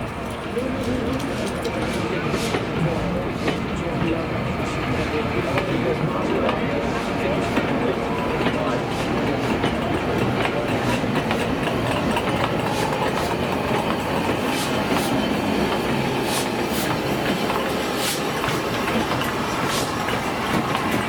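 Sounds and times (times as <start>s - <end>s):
train rumbling on rails: 0.0s - 21.0s
wheels clacking over rail joints: 0.0s - 21.0s.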